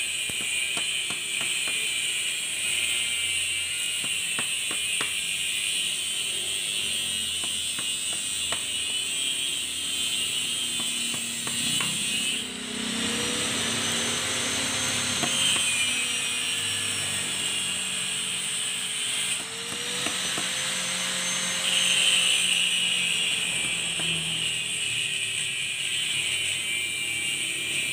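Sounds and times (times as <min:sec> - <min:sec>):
steady high-pitched buzz: 0:00.0 - 0:27.9.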